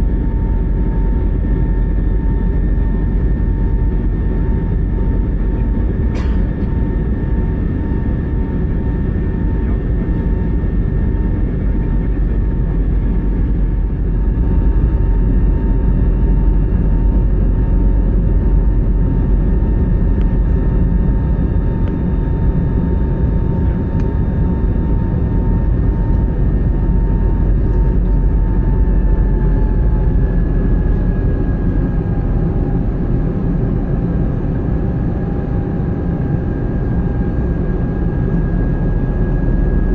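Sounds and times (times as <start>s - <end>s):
jet engines heard in cabin: 0.0s - 39.9s.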